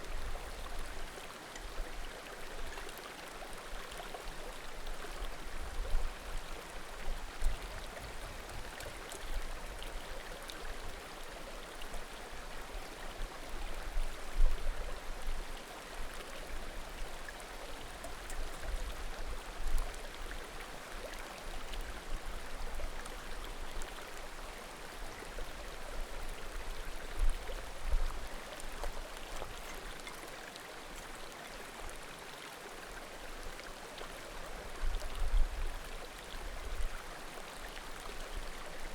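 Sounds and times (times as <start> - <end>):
mountain creek babbling: 0.0 - 38.9.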